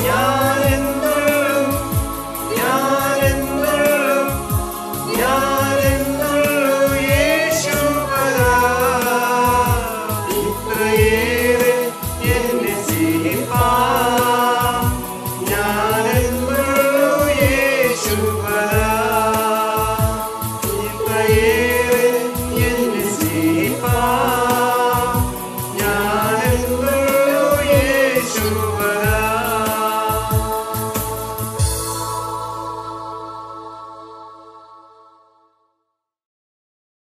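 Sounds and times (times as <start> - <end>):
instrumental backing with steady beat: 0.0 - 34.8
mixed choir singing a hymn: 0.0 - 35.2.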